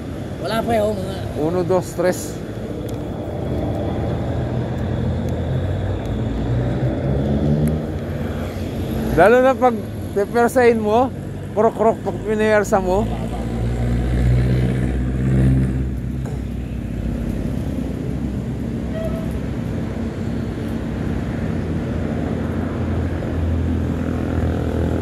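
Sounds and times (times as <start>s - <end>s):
vehicle engine droning: 0.8s - 25.0s.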